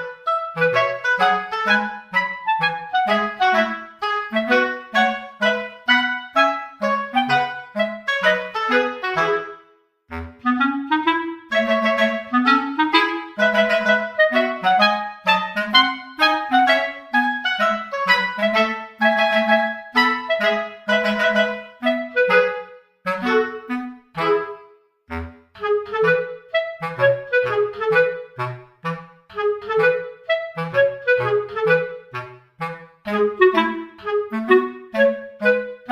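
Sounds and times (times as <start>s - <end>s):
lively melody of quick notes: 0.0s - 35.9s.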